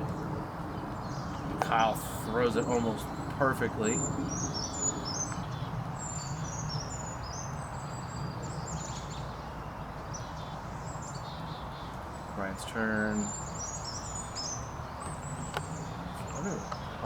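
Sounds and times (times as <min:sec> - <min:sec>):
birds chirping: 0:00.0 - 0:17.0
outdoor background hiss: 0:00.0 - 0:17.0.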